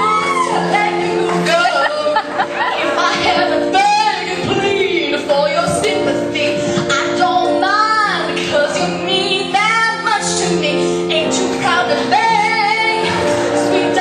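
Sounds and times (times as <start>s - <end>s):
instrumental accompaniment: 0.0s - 14.0s
woman singing: 0.0s - 14.0s.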